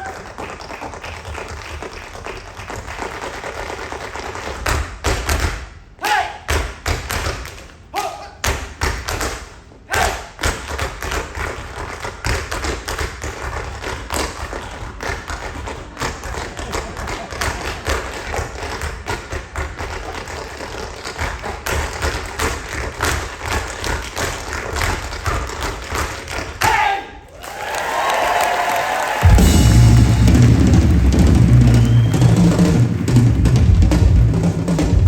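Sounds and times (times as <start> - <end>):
tap shoes on stage floor: 0.0 - 5.8, 6.5 - 7.8, 8.4 - 26.9, 27.6 - 35.0.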